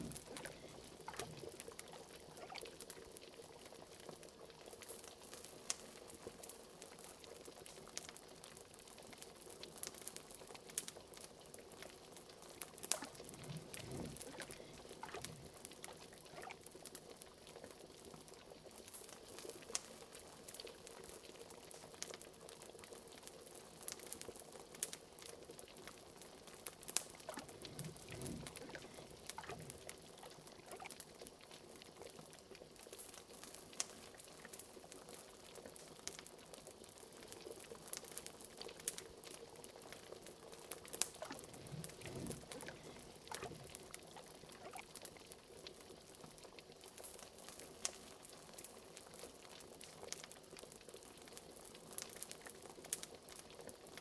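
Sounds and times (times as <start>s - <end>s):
liquid boiling in a pot: 0.0s - 54.0s.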